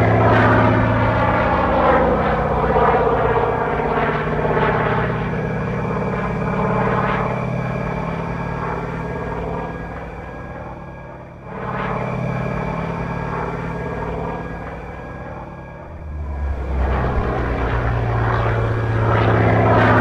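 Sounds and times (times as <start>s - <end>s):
propeller noise: 0.0s - 20.0s
radial engine drone from speaker: 0.0s - 20.0s.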